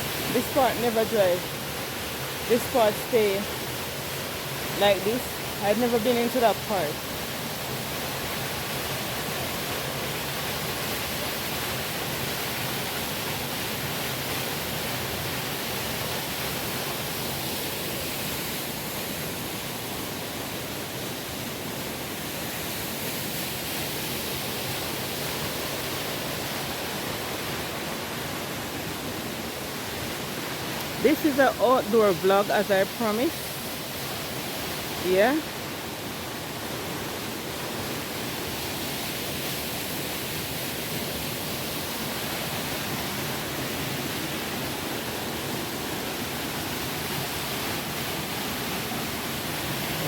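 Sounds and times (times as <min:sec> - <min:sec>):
rushing river water: 0:00.0 - 0:50.0.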